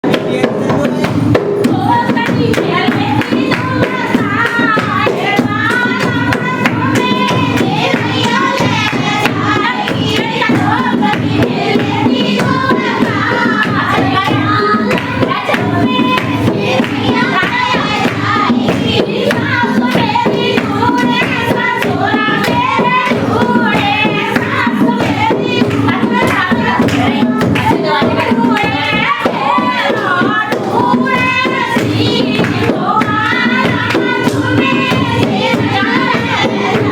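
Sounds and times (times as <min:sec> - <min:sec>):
hand claps: 0:00.0 - 0:36.9
percussion: 0:00.0 - 0:36.9
folk singing: 0:01.6 - 0:36.9.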